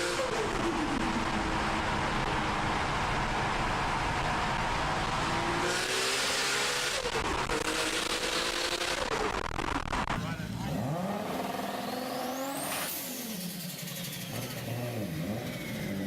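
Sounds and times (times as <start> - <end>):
car engine accelerating hard: 0.0 - 16.0
exhaust rush: 0.0 - 16.0
road noise: 0.0 - 16.0.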